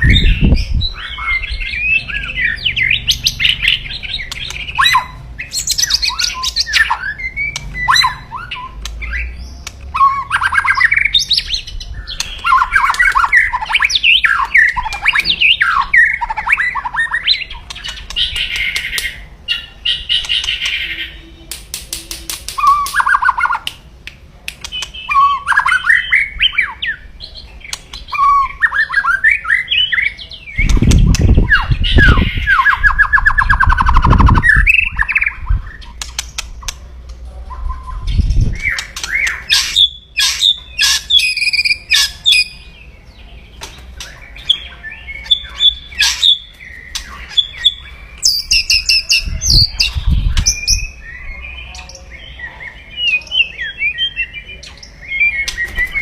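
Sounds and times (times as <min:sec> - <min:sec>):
harsh rattling bird calls: 0:00.0 - 0:23.7, 0:24.6 - 0:56.0.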